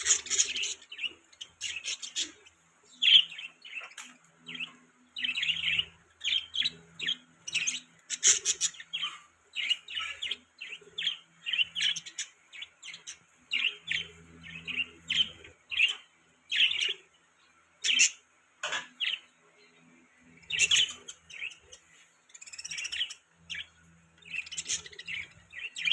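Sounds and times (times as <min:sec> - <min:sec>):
budgerigars chirping and warbling: 0:00.0 - 0:25.9.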